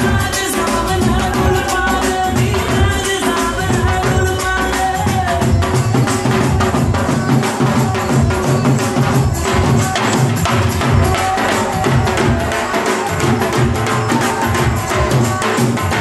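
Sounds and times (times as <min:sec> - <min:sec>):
dhol drum strikes: 0:00.0 - 0:16.0
loud dance music: 0:00.0 - 0:16.0.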